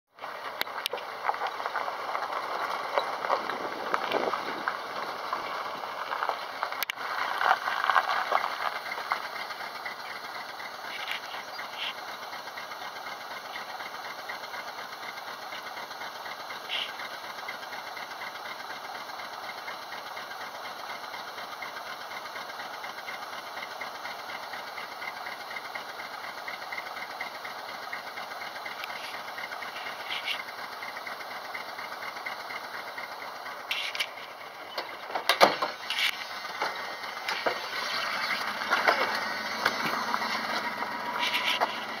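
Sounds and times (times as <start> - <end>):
small motor running steadily: 0.5 - 35.1, 35.7 - 42.0.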